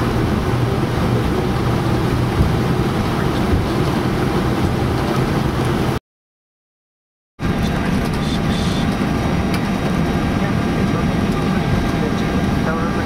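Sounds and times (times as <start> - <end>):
cockpit rumble and hiss: 0.0 - 6.0, 7.4 - 13.0.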